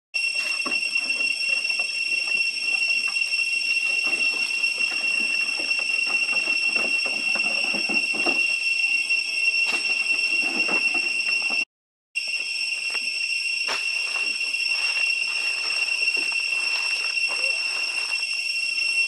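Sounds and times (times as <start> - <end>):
high-pitched insect drone: 0.2 - 11.6, 12.2 - 19.0.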